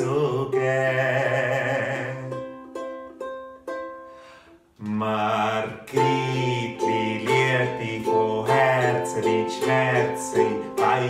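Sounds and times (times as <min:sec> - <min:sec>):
man singing a folk song: 0:00.0 - 0:02.8, 0:04.8 - 0:11.0
ukulele strumming: 0:00.0 - 0:11.0.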